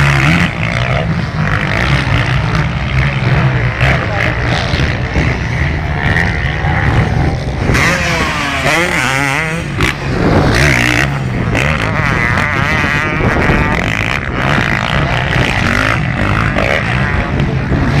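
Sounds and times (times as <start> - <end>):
motocross bikes revving: 0.0 - 18.0.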